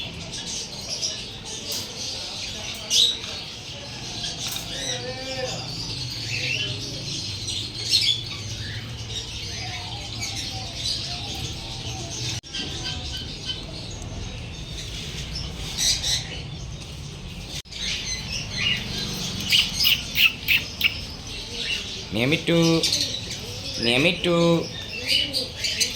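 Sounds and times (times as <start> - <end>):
small birds chirping and squawking: 0.0 - 25.9.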